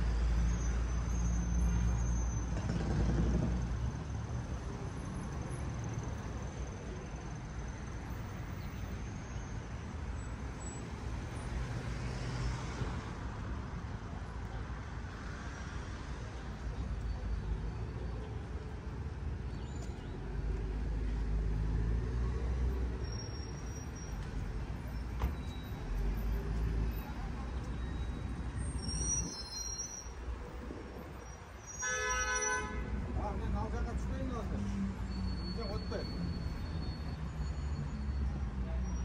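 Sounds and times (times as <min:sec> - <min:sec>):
cars and buses passing: 0:00.0 - 0:39.0.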